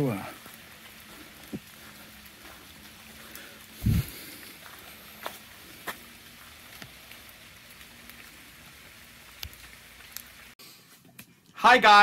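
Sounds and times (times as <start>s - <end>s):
light rain on foliage: 0.0s - 10.6s.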